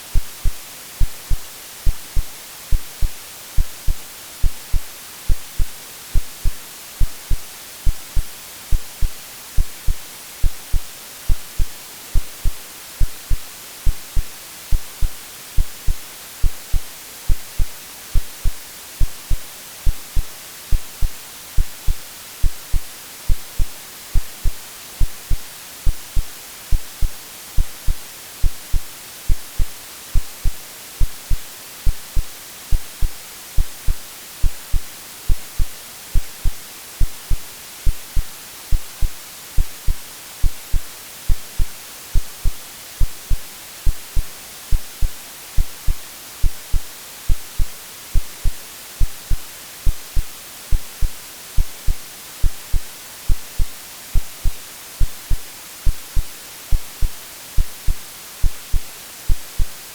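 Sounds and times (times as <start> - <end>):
white noise hiss: 0.0 - 59.9
heartbeat thumps: 0.1 - 59.8.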